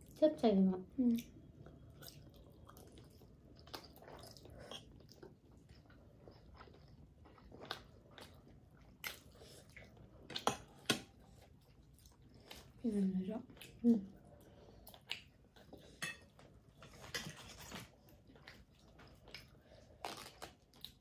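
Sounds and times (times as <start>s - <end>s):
chewing with wet mouth clicks: 1.1s - 12.8s, 13.4s - 17.4s, 18.0s - 21.0s.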